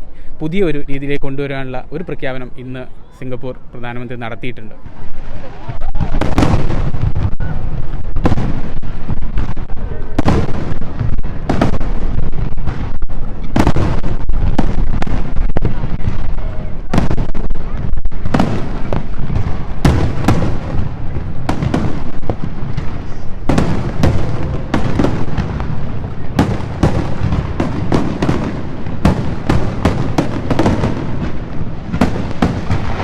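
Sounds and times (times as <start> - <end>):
fireworks bangs and booms: 3.9 - 33.0.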